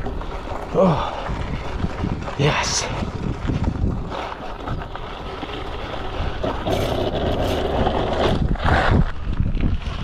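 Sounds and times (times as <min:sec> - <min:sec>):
tyres scrabbling over loose dirt: 0:00.0 - 0:10.0
wind buffeting microphone: 0:00.0 - 0:10.0.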